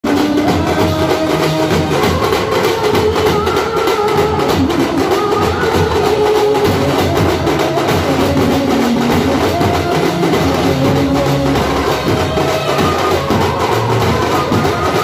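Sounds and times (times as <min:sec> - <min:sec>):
large drums beating: 0:00.0 - 0:15.0.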